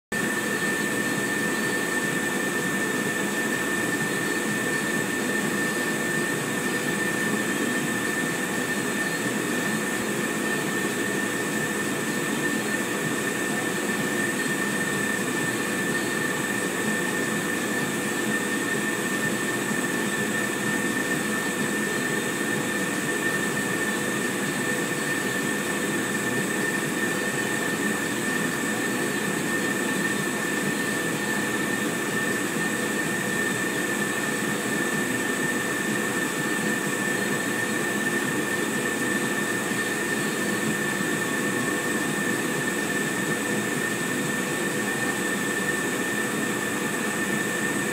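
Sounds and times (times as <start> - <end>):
constant high whine: 0.1 - 47.9
laser engraver whirring: 0.2 - 47.9.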